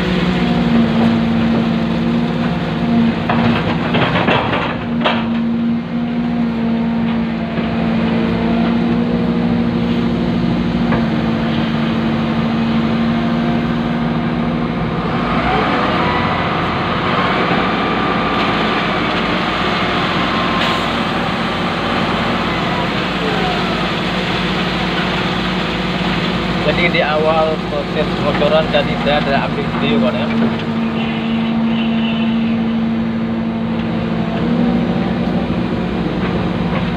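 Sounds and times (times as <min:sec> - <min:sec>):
excavator engine running: 0:00.0 - 0:36.9.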